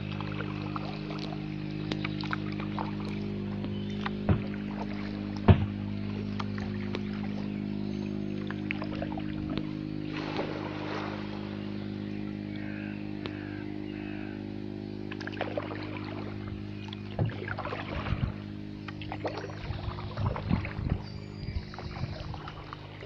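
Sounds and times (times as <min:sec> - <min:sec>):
kayak paddle splashing water: 0:00.0 - 0:07.6, 0:08.2 - 0:12.0, 0:15.1 - 0:23.0
steady low hum: 0:00.0 - 0:23.0.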